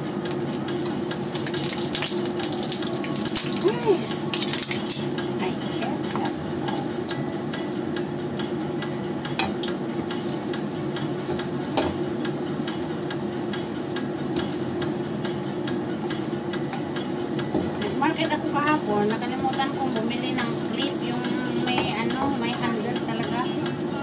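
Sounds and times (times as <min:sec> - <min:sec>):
food sizzling in oil: 0:00.1 - 0:24.0.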